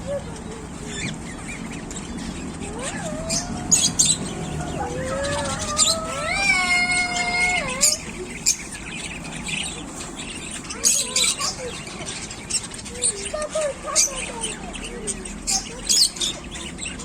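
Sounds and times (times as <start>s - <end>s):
drawn-out pitched bird calls: 0.0s - 17.0s
lovebirds chirping: 0.0s - 17.0s.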